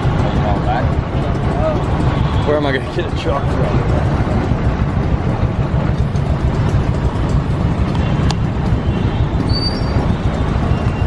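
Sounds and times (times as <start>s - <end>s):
heavy traffic rumble: 0.0s - 11.0s.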